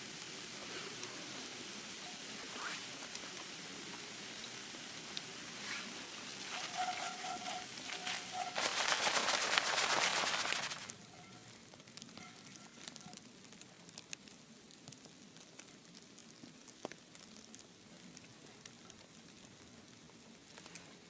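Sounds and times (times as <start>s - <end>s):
wood stove sizzling and crackling: 0.0s - 21.0s.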